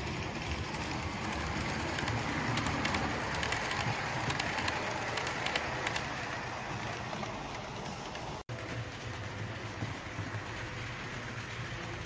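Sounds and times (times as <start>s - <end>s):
model train rumbling: 0.0s - 12.0s
wheels clicking over rail joints: 0.0s - 12.0s.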